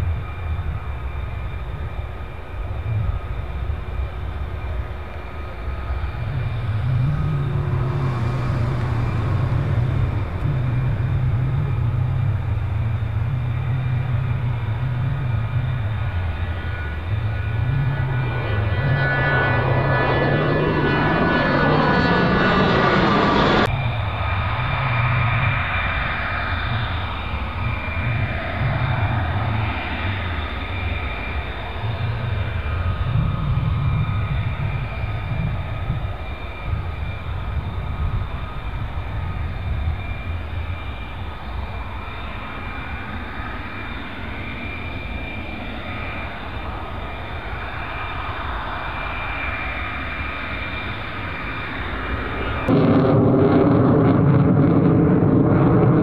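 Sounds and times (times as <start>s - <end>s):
jet engine roar with high whine: 0.0s - 56.0s.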